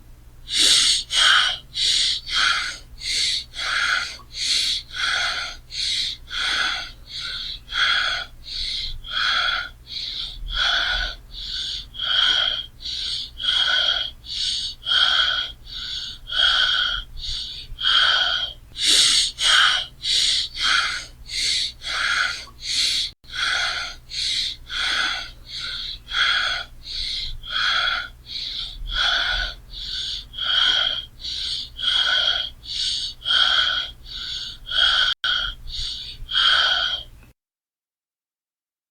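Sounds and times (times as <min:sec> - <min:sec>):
person breathing heavily: 0:00.5 - 0:37.2.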